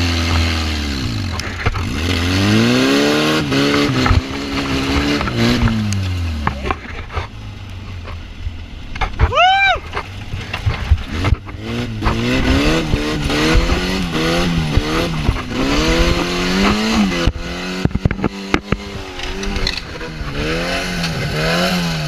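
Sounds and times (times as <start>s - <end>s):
small engine revving: 0.0s - 7.2s, 10.1s - 22.0s.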